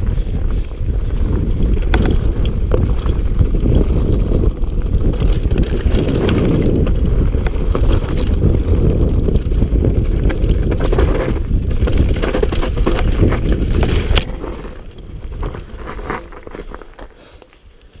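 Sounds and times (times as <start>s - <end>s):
wind buffeting microphone: 0.0s - 16.8s
bike tyre rumble: 0.0s - 18.0s
bike chain and frame rattling: 0.1s - 17.4s.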